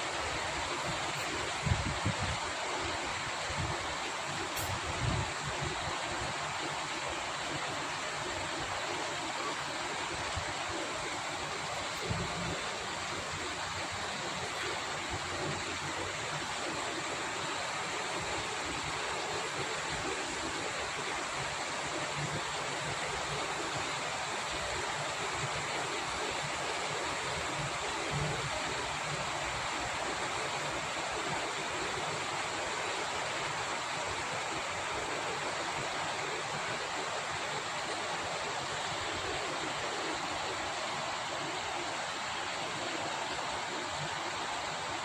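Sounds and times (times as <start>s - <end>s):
steady rainfall: 0.0s - 45.0s.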